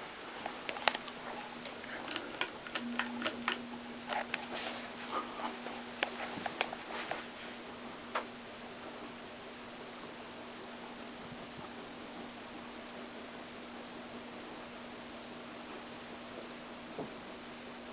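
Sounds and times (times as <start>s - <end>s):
ceiling fan motor hum: 0.0s - 17.9s.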